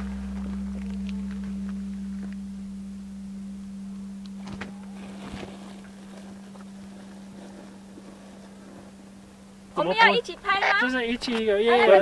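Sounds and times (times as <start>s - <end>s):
background music held low tone: 0.0s - 10.5s.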